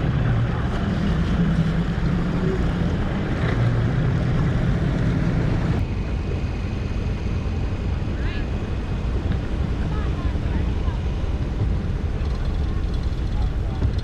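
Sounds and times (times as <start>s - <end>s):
outboard motor running: 0.0s - 14.0s
wind noise on microphone: 0.0s - 14.0s.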